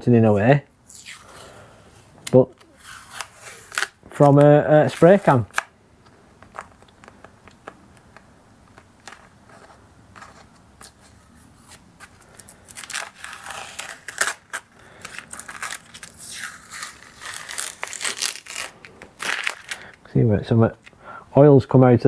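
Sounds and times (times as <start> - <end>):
masking tape peeling and crinkling: 0.8 - 20.0.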